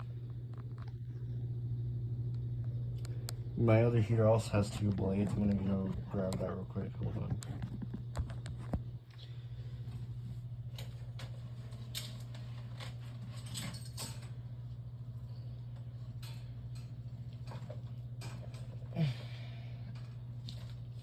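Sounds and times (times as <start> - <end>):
low fluttering hum: 0.0 - 21.0.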